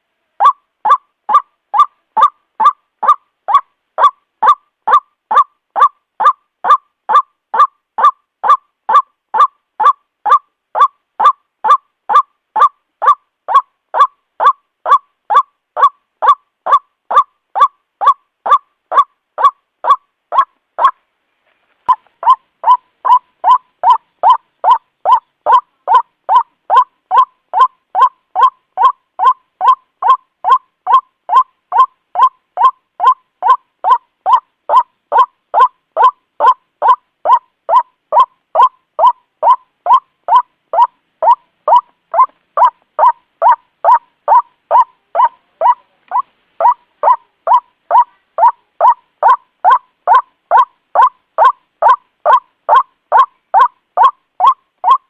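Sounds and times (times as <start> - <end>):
waterhen calling: 0.0 - 21.0, 21.8 - 55.0.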